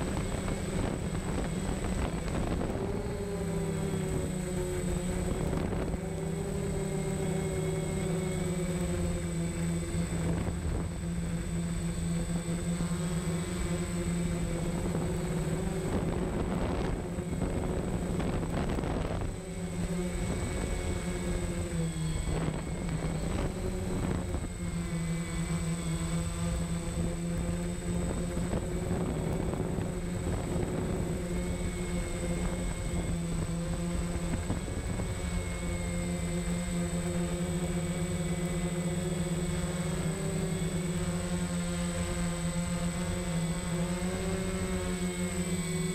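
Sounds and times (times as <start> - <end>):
drone propellers buzzing: 0.0 - 45.9
rushes of air noise: 0.0 - 45.9.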